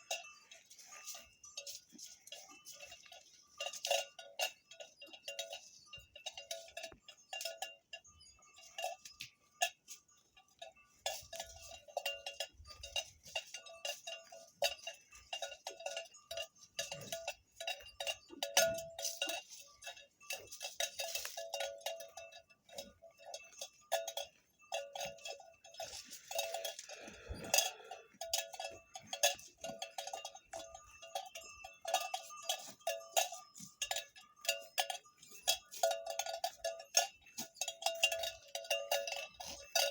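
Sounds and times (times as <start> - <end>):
cowbells clanking: 0.0 - 39.9.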